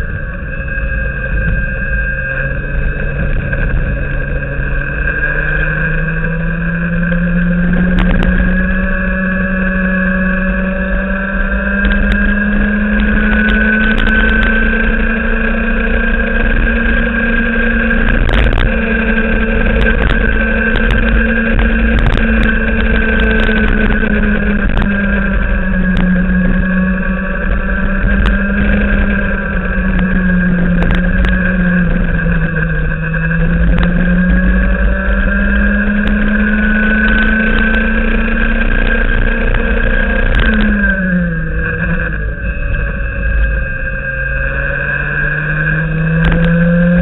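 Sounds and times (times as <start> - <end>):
kart engine at high revs: 0.0 - 47.0
low rumble: 0.0 - 47.0.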